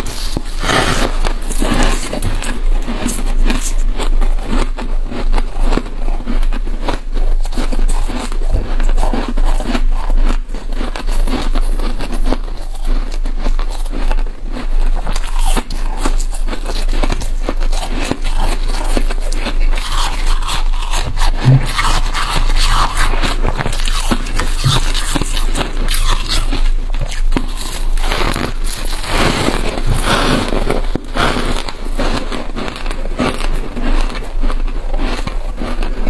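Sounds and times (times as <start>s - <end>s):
frost being chewed: 0.0s - 36.0s
steady low hum: 0.0s - 36.0s.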